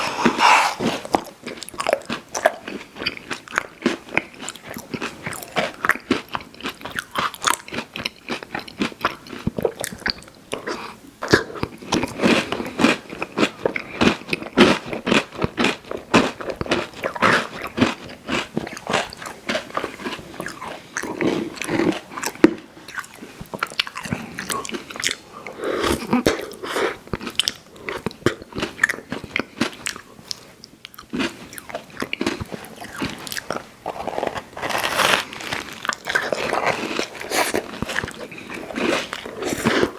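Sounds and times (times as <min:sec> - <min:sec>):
chewing candy: 0:00.0 - 0:39.9.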